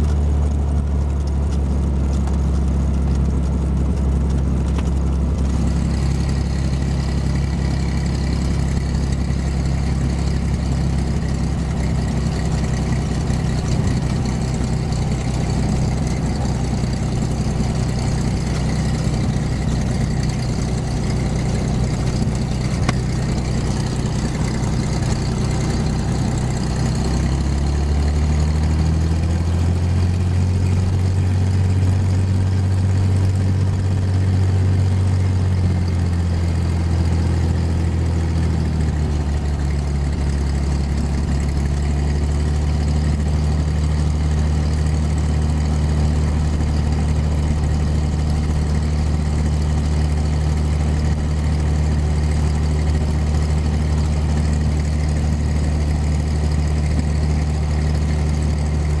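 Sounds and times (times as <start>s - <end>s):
aircraft engine and propeller running: 0.0s - 59.0s.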